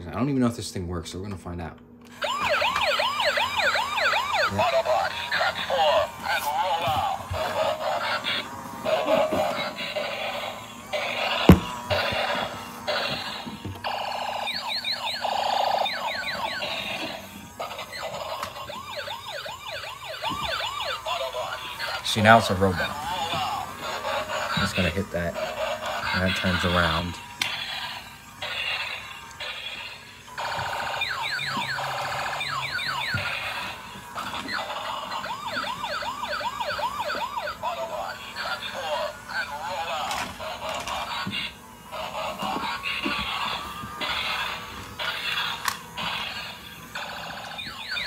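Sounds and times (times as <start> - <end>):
toy electronic sound effects: 2.1 - 48.0
toy wailing siren: 2.1 - 48.0.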